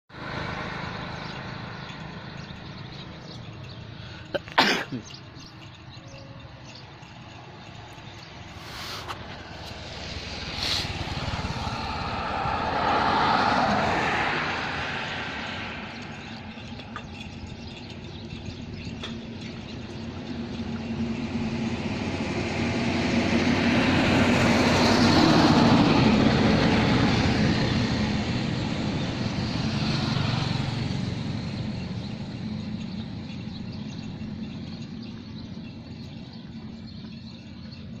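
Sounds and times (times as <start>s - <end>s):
vehicles passing on road: 0.1s - 38.0s.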